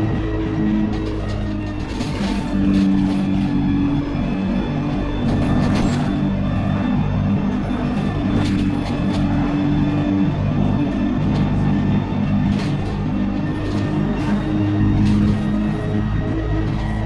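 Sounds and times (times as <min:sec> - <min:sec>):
music with sustained low tones: 0:00.0 - 0:17.0.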